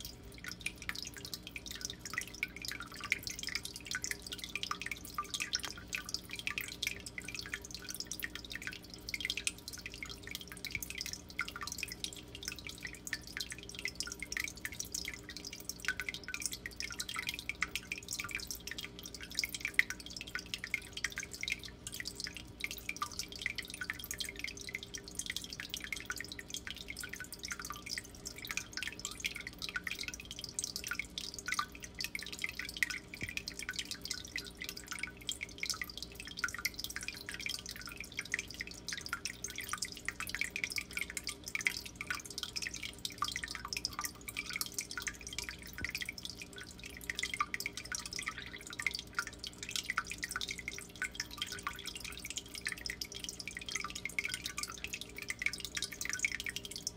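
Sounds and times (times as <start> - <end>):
low steady hum: 0.0 - 56.9
water trickling and dripping: 0.0 - 56.9.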